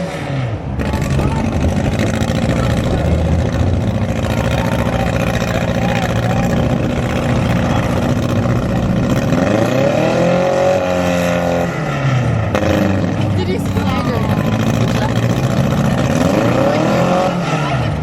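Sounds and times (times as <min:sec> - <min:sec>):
car engines running: 0:00.0 - 0:18.0
engine revving: 0:00.0 - 0:18.0.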